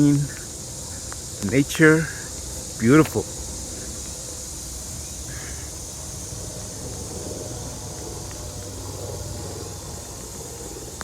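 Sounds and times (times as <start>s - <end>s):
insects buzzing: 0.0s - 11.0s
road traffic hum: 0.0s - 11.0s.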